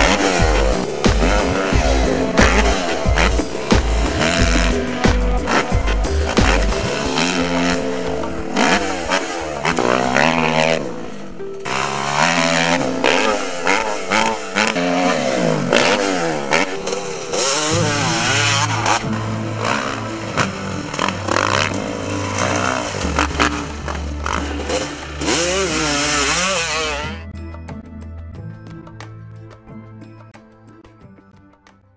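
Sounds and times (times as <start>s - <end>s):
dirt bike engines revving: 0.0s - 27.2s
background music with low bass: 0.0s - 31.9s.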